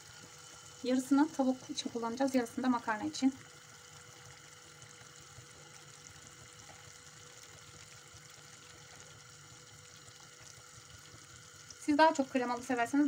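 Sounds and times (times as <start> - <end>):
chicken sizzling in a frying pan: 0.0 - 13.0
faint steady hum: 0.0 - 13.0.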